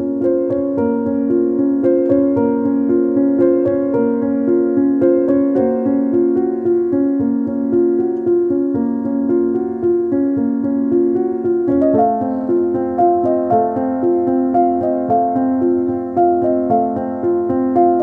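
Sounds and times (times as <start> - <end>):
background instrumental music: 0.0 - 18.0.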